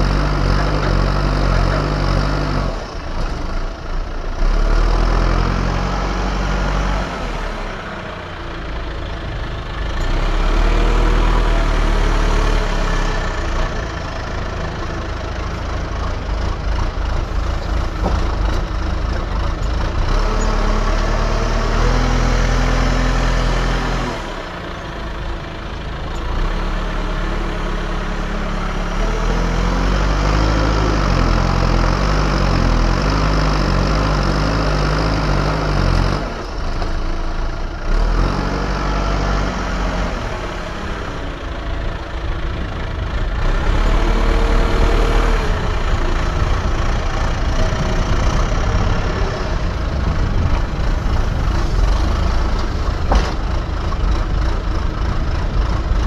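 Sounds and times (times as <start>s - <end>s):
diesel engine working: 0.0s - 56.0s.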